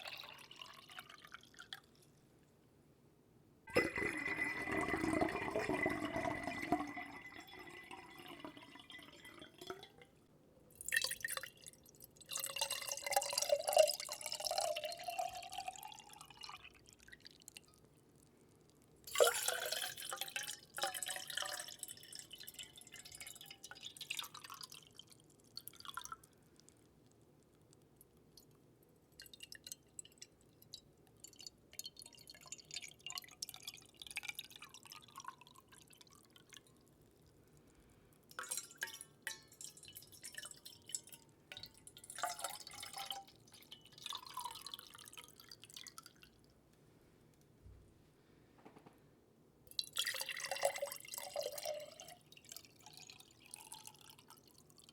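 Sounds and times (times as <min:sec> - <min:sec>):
water pouring: 0:00.0 - 0:02.0, 0:03.7 - 0:10.1, 0:10.7 - 0:18.2, 0:19.0 - 0:26.8, 0:29.2 - 0:37.7, 0:38.3 - 0:46.4, 0:49.7 - 0:54.9.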